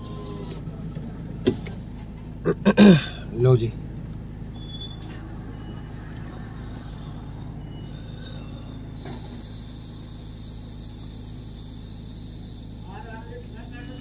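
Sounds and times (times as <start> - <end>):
car idling hum: 0.0 - 14.0.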